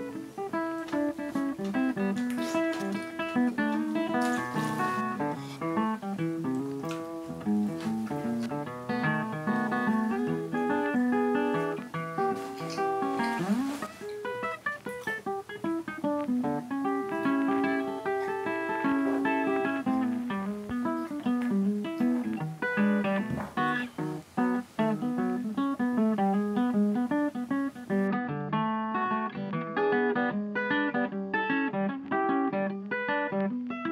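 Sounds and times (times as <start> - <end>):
plucked guitar melody: 0.0 - 33.9.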